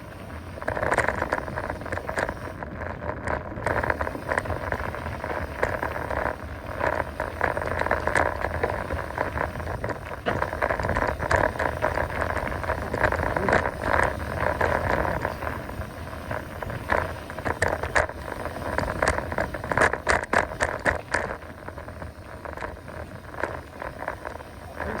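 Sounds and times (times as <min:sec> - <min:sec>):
bike rattles and clicks: 0:00.0 - 0:25.0
bike tyres rolling on trail: 0:00.0 - 0:25.0.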